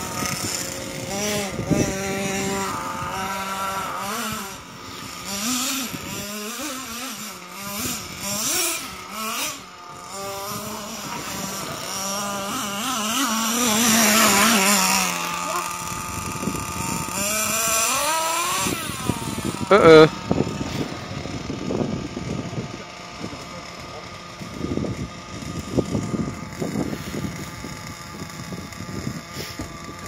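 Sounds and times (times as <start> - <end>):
model car motors whining: 0.0 - 30.0.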